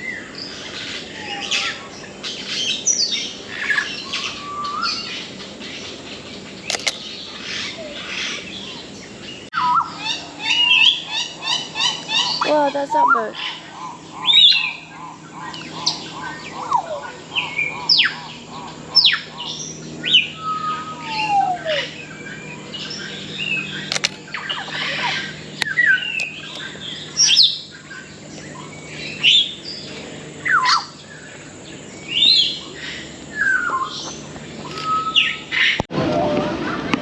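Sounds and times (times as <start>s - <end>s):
birds calling: 0.0s - 37.0s
low hum: 0.0s - 37.0s.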